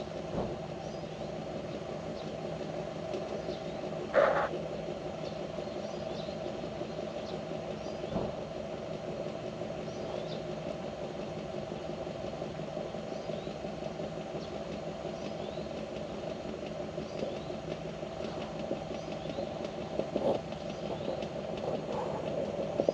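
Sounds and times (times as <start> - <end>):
engine hum: 0.0 - 22.9.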